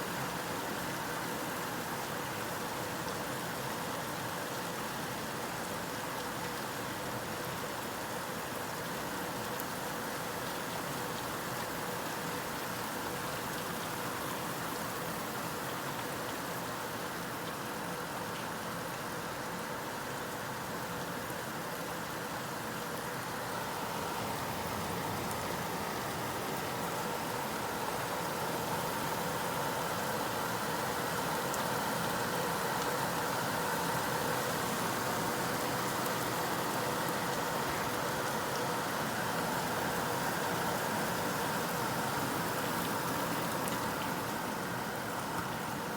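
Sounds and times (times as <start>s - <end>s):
rain falling: 0.1s - 45.9s.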